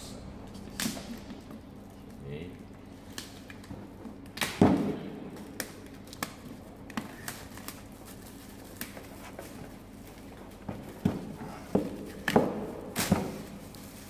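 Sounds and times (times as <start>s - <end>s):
plastic shrink wrap crinkling: 0.5s - 11.0s, 11.6s - 14.0s.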